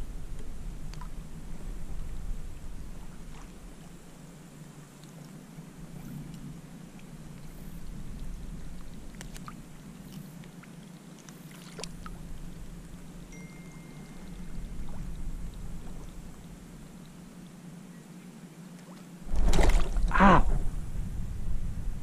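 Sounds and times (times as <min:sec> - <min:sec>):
water lapping and trickling: 0:00.0 - 0:21.6.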